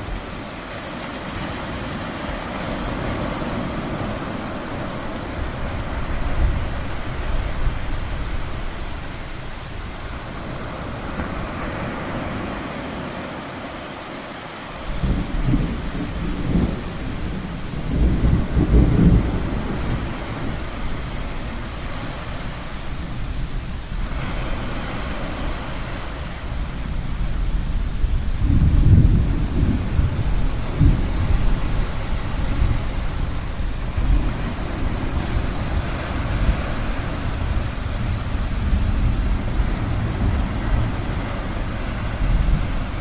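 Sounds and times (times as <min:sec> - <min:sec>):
ocean waves: 0:00.0 - 0:43.0
low thunder rumbling: 0:01.6 - 0:12.6, 0:14.8 - 0:43.0.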